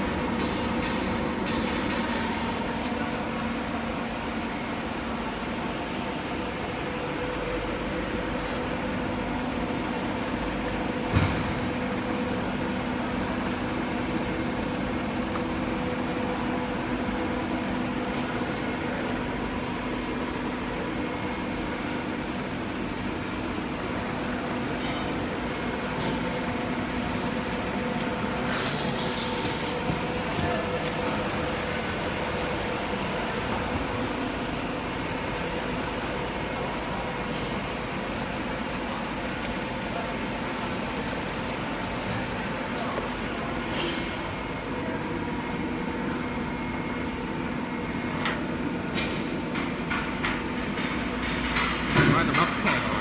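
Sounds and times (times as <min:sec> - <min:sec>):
machine mechanical hum: 0:00.0 - 0:53.0.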